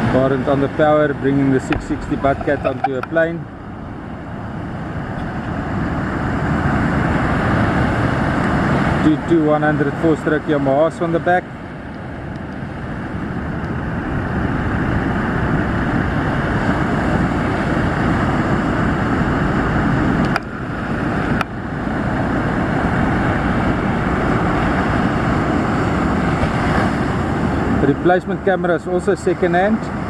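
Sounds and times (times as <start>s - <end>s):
wind on microphone: 0.0s - 9.6s, 11.4s - 27.9s
outboard motors at full power: 0.0s - 30.0s
surf roar: 0.0s - 30.0s.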